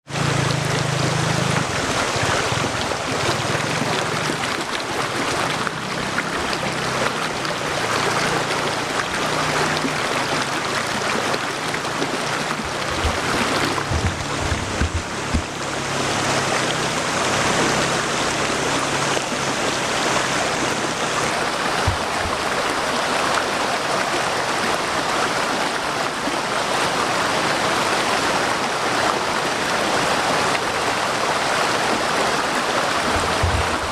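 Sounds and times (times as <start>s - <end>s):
waterfall rushing into pool: 0.0s - 33.9s.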